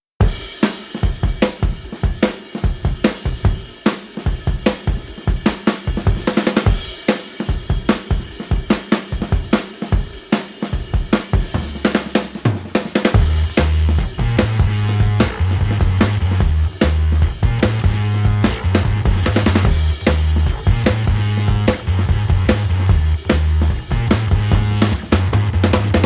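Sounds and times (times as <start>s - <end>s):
drum kit beat: 0.2s - 26.0s.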